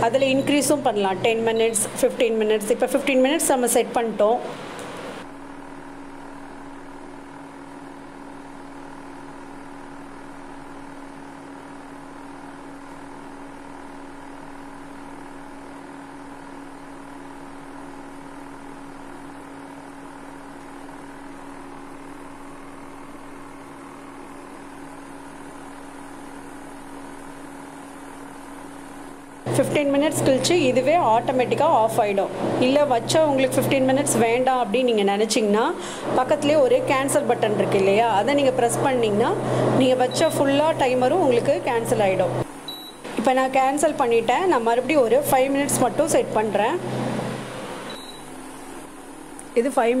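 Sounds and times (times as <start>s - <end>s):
cooling fan whirring: 0.0s - 50.0s
low electrical hum: 0.0s - 50.0s.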